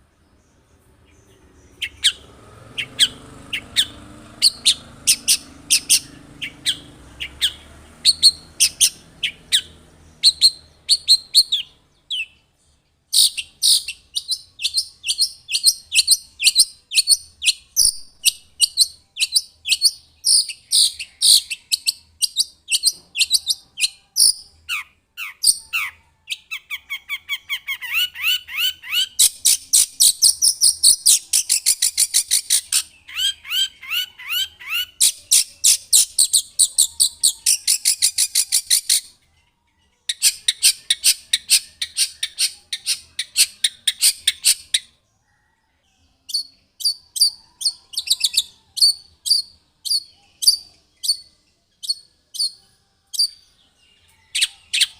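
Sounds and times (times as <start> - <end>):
bird singing sharp high chirps: 0.5 - 39.2, 40.0 - 45.6, 46.2 - 54.9.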